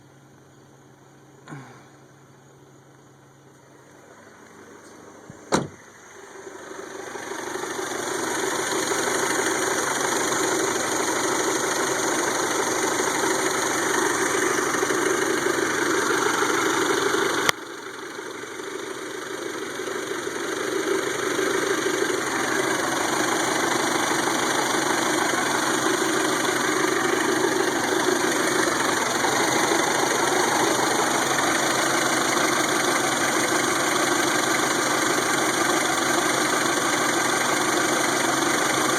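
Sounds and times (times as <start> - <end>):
car engine idling: 0.5 - 38.9.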